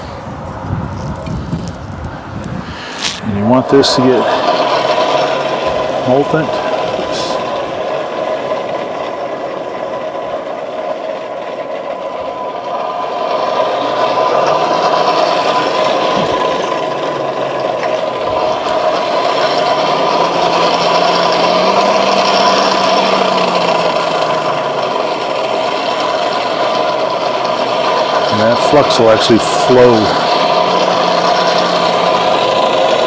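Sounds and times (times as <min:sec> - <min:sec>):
forge rushing and humming: 0:00.0 - 0:33.0.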